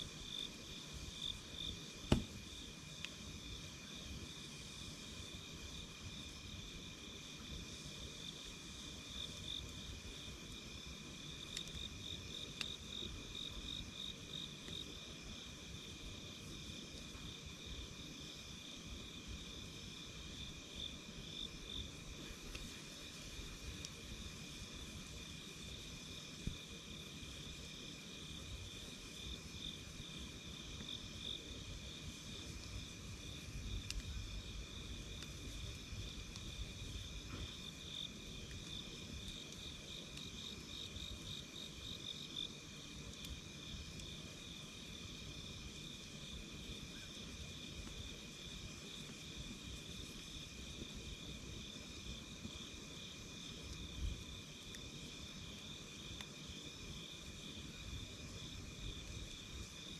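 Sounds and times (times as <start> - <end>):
crickets chirping: 0.0 - 59.9
fire crackle: 0.0 - 59.9
low fire rumble: 0.0 - 59.9.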